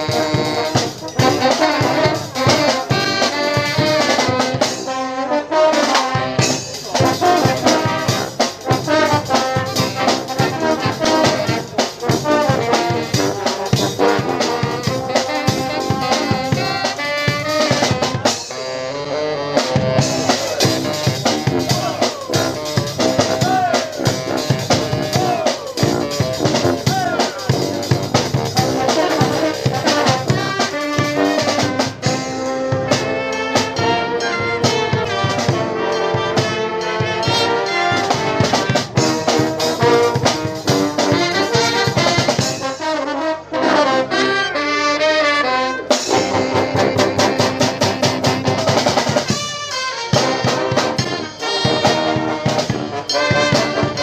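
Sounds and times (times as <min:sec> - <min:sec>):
drum kit beat: 0:00.0 - 0:18.7, 0:19.6 - 0:43.0, 0:45.8 - 0:54.0
brass band playing: 0:00.0 - 0:54.0.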